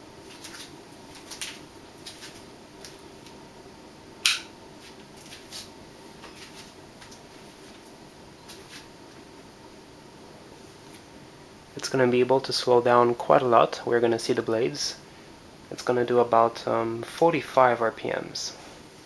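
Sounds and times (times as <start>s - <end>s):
ceiling fan motor humming: 0.0s - 19.0s.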